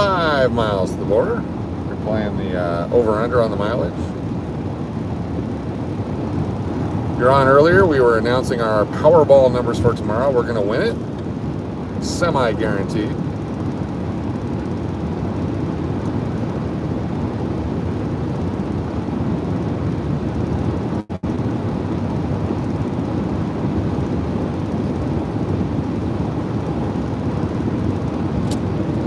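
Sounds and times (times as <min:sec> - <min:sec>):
car cabin road and engine noise: 0:00.0 - 0:29.0.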